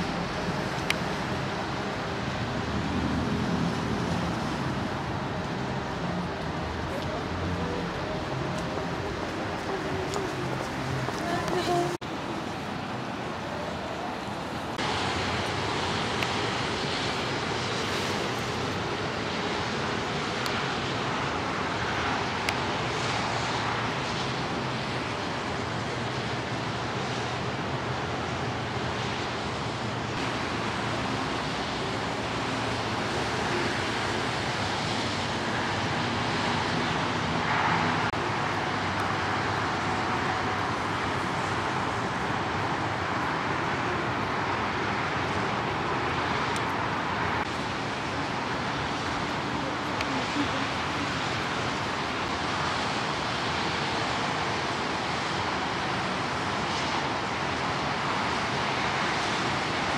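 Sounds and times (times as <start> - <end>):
city traffic rushing: 0.0 - 59.9.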